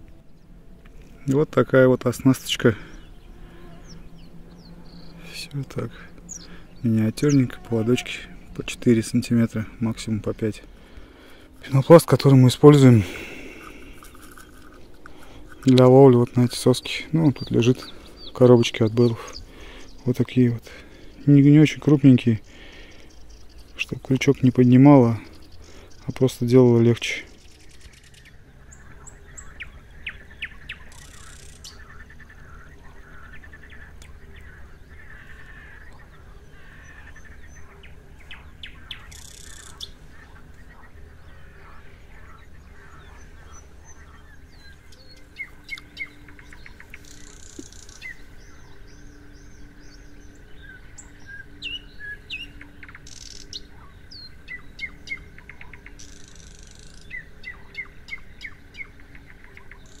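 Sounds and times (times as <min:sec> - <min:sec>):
other birds: 0:00.0 - 1:00.0
nightingale singing: 0:02.7 - 1:00.0.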